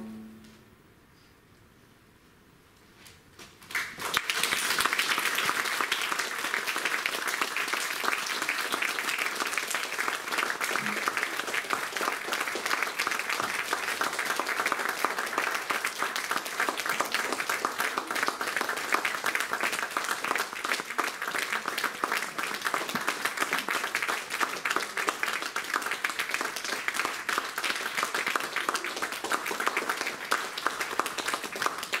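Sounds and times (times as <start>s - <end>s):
audience applauding: 3.7s - 32.0s.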